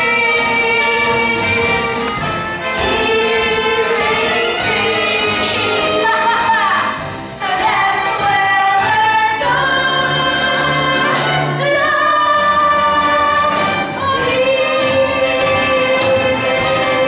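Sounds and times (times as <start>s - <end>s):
group singing a show tune: 0.0s - 17.0s
instrumental accompaniment: 0.0s - 17.0s.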